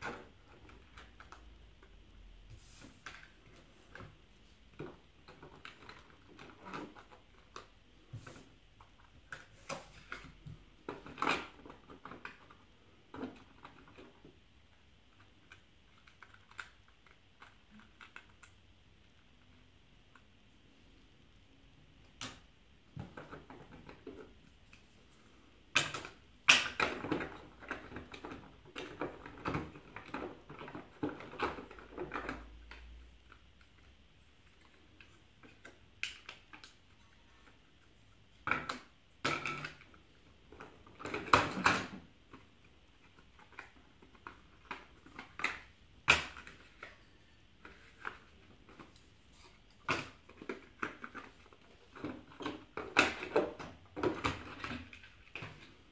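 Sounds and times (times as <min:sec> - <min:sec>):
cardboard tiles clicking and clattering: 0:00.0 - 0:18.6, 0:25.7 - 0:37.7, 0:38.4 - 0:55.9.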